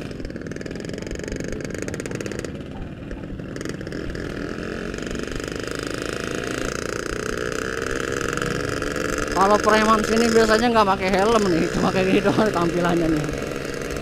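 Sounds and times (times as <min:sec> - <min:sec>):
two-stroke motorcycle engine running: 0:00.0 - 0:14.0.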